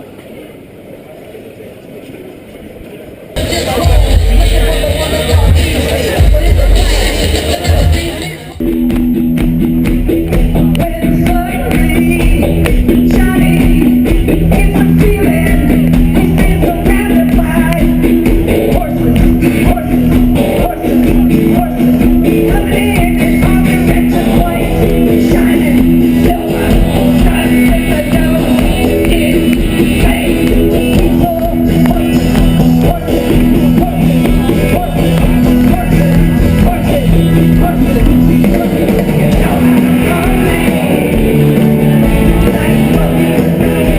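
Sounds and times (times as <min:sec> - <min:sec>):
live rock music: 0:03.4 - 0:43.9.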